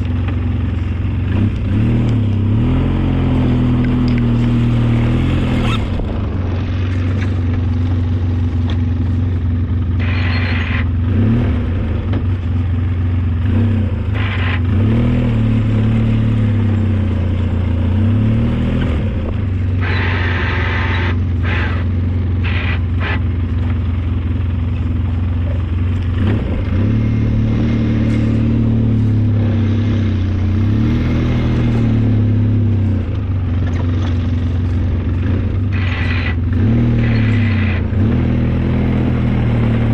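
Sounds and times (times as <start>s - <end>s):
vehicle engine under load: 0.0s - 39.9s.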